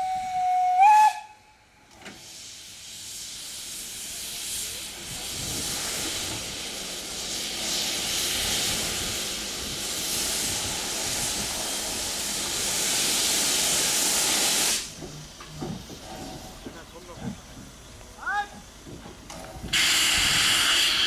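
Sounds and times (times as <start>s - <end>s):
steam locomotive hissing: 0.0s - 21.0s.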